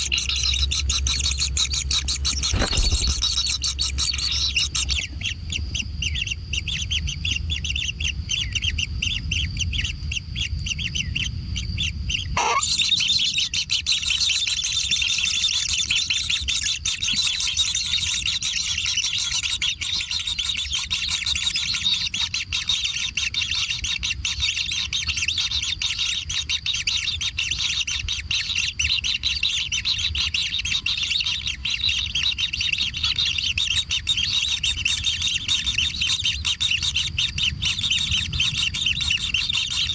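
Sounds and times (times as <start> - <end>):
chicks chattering high calls: 0.0 - 39.9.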